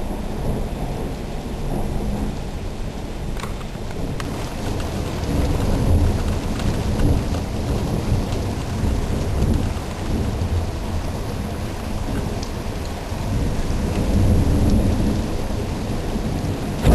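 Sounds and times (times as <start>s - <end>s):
rolling thunder: 0.0s - 16.9s
steady rain: 0.0s - 16.9s
raindrop ticks: 3.3s - 16.9s.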